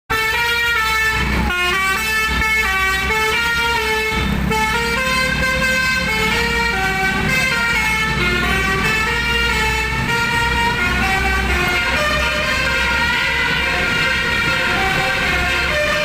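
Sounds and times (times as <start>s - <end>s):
multi-tone air horn tune: 0.1s - 16.0s
truck engine running: 0.1s - 16.0s.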